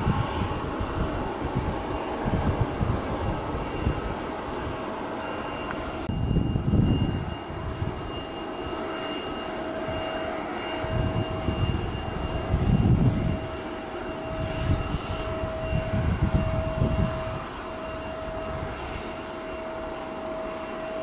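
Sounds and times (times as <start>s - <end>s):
jet engines whining: 0.0s - 21.0s
wind buffeting microphone: 0.0s - 21.0s.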